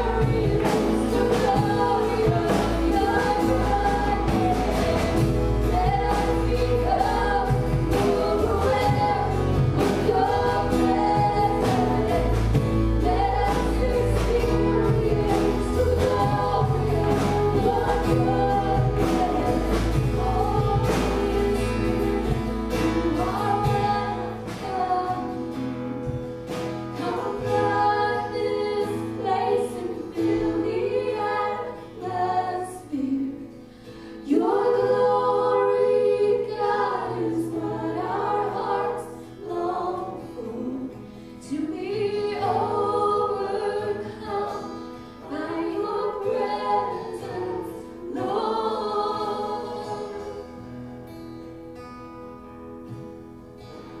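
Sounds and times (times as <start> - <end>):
voices singing: 0.0 - 50.8
acoustic guitar: 0.0 - 54.0
keyboard: 0.0 - 54.0.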